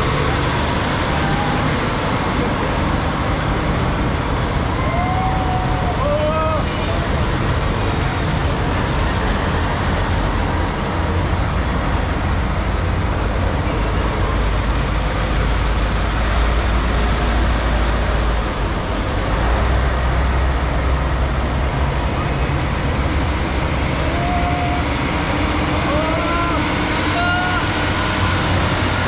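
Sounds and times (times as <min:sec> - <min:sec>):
diesel truck engine rumble: 0:00.0 - 0:29.0.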